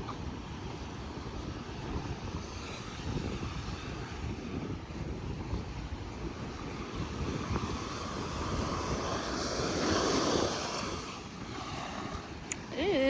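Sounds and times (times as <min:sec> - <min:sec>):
ocean surf on rocks: 0:00.0 - 0:13.0
wind buffeting microphone: 0:00.0 - 0:13.0.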